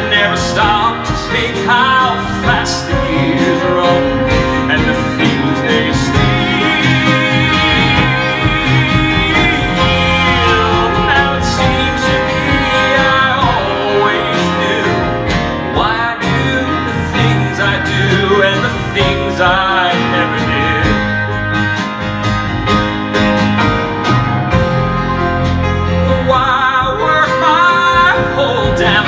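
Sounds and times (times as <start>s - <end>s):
man singing: 0.0s - 21.4s, 26.0s - 29.0s
acoustic band playing a ballad: 0.0s - 29.0s.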